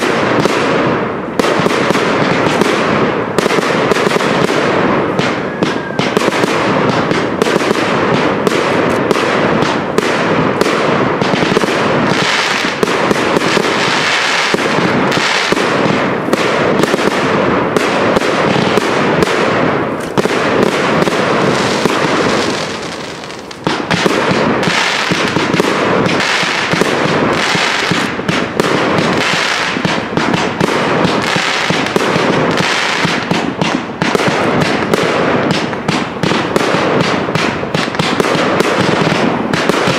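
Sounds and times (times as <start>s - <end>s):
fireworks bursting: 0.0s - 39.9s
fireworks crackle: 0.0s - 39.9s.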